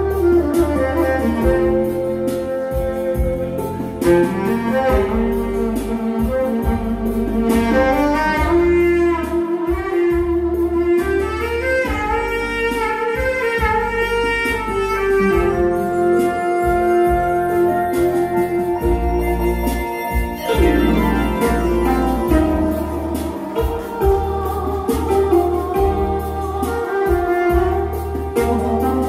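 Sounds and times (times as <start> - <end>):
electronic keyboard accompaniment: 0.0 - 29.0
saxophone melody: 0.0 - 29.0.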